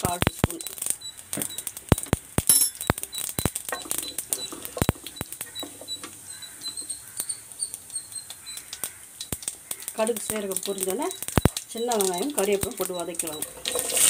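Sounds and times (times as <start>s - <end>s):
faint oil sizzle: 0.0s - 14.0s
seeds popping in hot oil: 0.0s - 14.0s.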